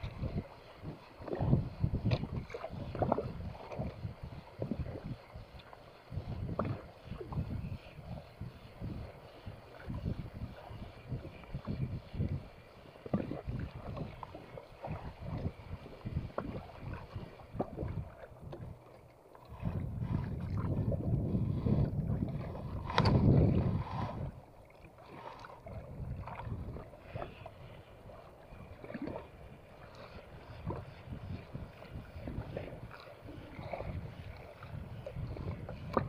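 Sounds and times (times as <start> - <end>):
water slapping against boat: 0.0 - 36.0
wind on microphone: 0.0 - 36.0.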